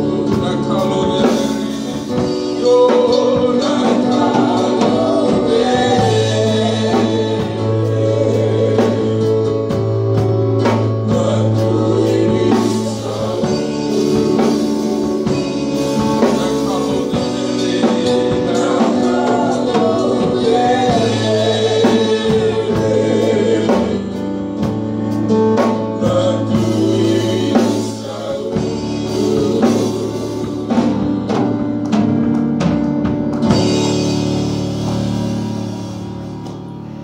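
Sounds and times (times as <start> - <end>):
group of singers: 0.0 - 32.3
drum kit: 0.0 - 37.0
keyboard: 0.0 - 37.0.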